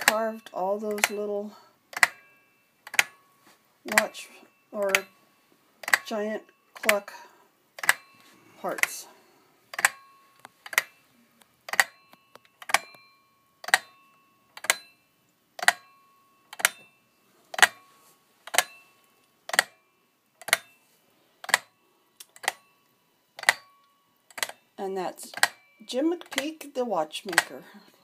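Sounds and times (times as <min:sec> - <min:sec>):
watch movement ticking: 0:00.0 - 0:03.3, 0:03.9 - 0:09.1, 0:09.7 - 0:20.8, 0:21.4 - 0:27.8.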